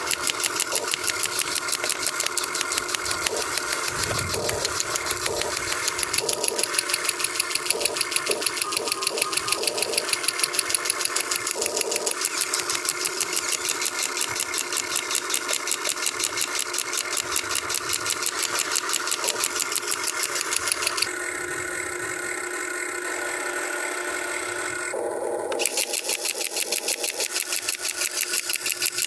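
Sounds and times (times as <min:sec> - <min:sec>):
motor hum: 0:00.0 - 0:29.0.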